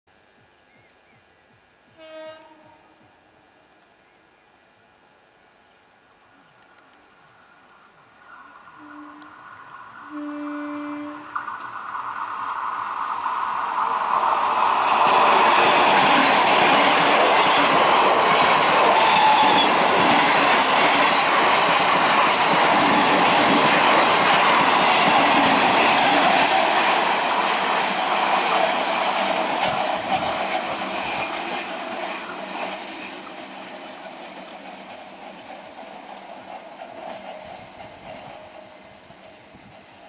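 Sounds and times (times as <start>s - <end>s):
train rumbling past: 7.0s - 40.0s.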